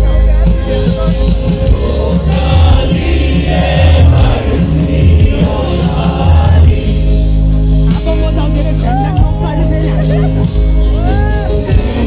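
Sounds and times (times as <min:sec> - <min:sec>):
heavy pulsing bass: 0:00.0 - 0:12.0
live band music: 0:00.0 - 0:12.0.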